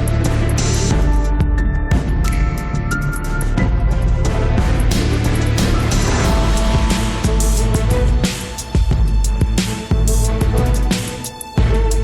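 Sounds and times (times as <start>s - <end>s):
music with heavy bass drum: 0.0s - 12.0s.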